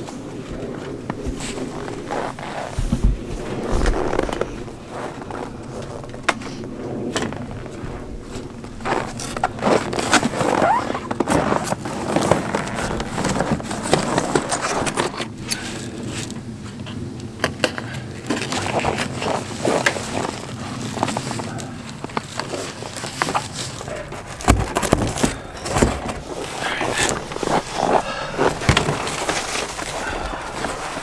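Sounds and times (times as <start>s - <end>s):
cardboard scraping and rustling: 0.8s - 6.0s, 7.2s - 16.4s, 17.6s - 31.0s.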